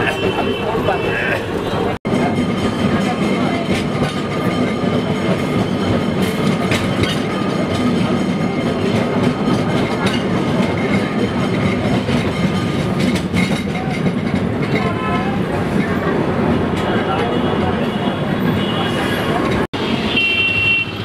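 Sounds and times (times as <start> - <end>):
tram rumbling and rattling: 0.0 - 21.0.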